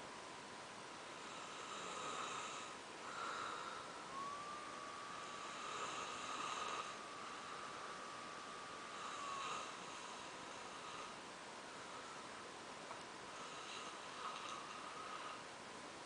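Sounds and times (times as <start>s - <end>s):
soft snoring: 1.0s - 15.5s
thin steady whistling tone: 1.0s - 15.5s.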